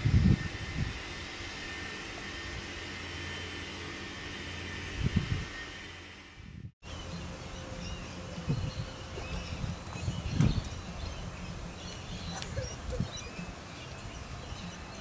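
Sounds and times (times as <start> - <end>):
mechanical drone with whine: 0.0 - 15.0.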